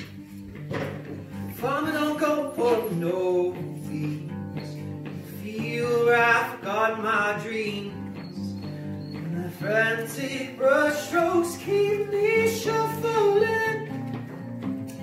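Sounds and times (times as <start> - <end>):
acoustic guitar chords: 0.0 - 15.0
person singing: 1.4 - 14.2.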